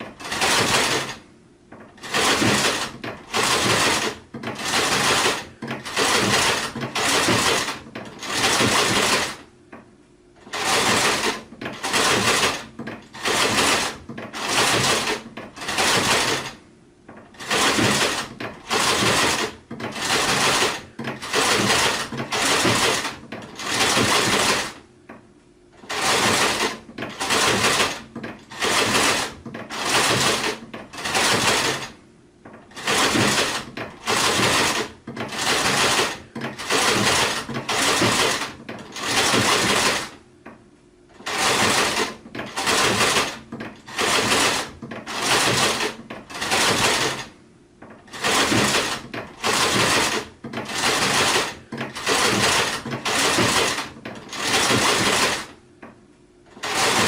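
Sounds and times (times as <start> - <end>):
sewing machine stitching: 0.0 - 9.5, 10.4 - 24.8, 25.8 - 40.2, 41.1 - 55.6, 56.5 - 57.0.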